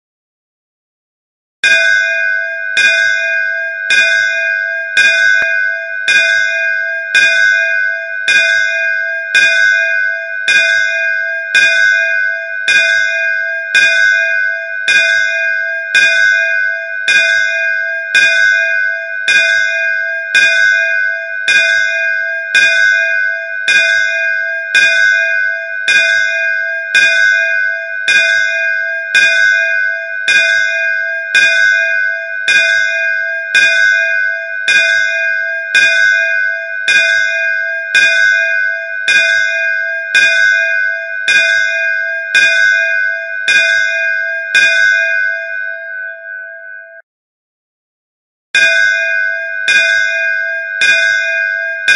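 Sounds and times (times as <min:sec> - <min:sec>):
temple bell ringing: 0:01.6 - 0:47.0, 0:48.6 - 0:51.9.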